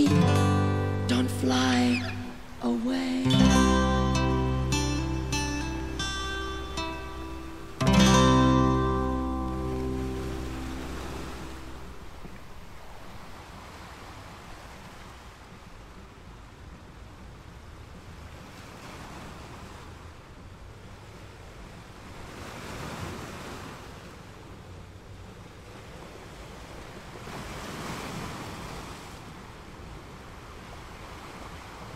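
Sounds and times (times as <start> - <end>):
ocean waves breaking: 0.0 - 16.2, 20.8 - 31.9.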